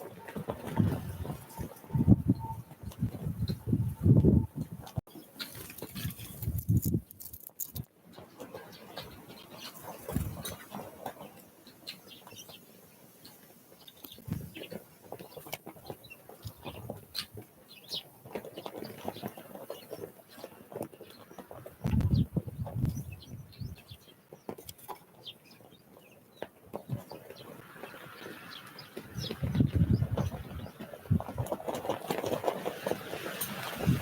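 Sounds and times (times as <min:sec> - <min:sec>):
small birds chirping: 0:00.2 - 0:31.8.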